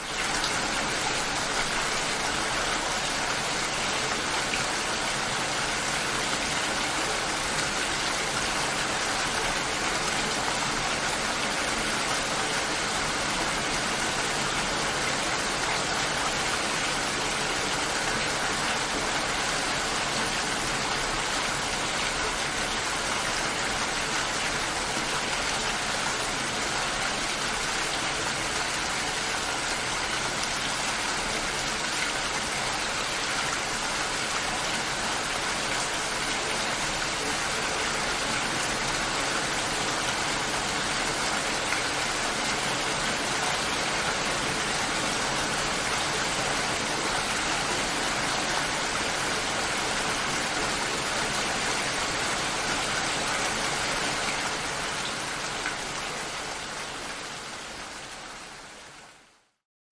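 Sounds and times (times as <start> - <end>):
rain pattering: 0.0 - 59.1.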